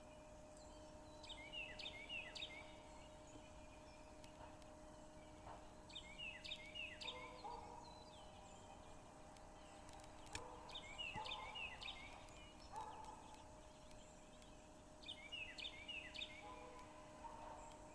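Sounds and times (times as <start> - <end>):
faint bird chirping: 0.0 - 17.9.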